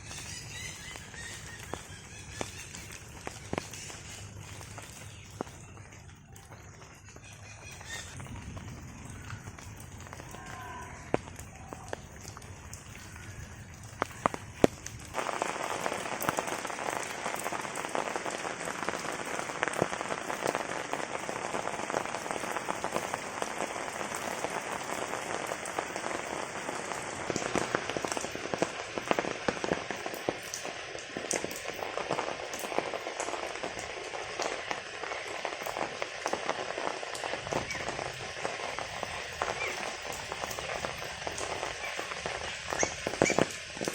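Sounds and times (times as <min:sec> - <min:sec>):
heavy rain pattering: 0:00.0 - 0:43.9.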